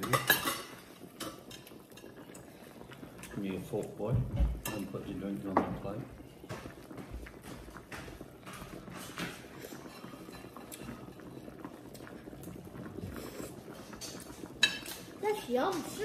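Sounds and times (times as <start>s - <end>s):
broth bubbling: 0.0s - 16.0s
food sizzling on grill: 0.0s - 16.0s.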